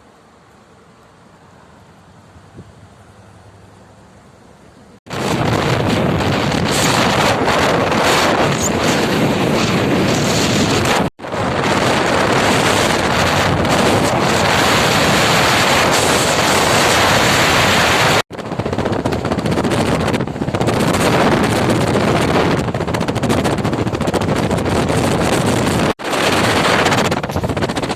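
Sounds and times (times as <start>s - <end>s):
strong wind on microphone: 5.1s - 27.9s.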